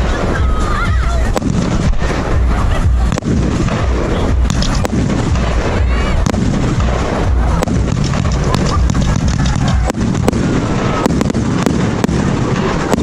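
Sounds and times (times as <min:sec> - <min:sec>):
firework sharp cracks: 0:00.0 - 0:13.0
fireworks bursting rumble: 0:00.0 - 0:13.0.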